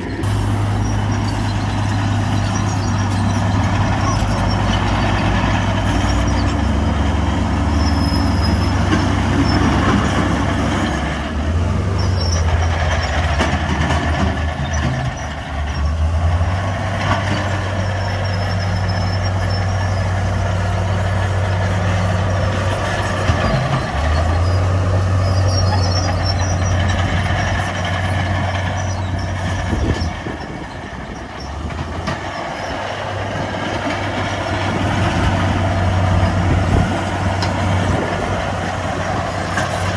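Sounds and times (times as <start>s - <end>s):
heavy diesel machinery engine hum: 0.0s - 39.9s.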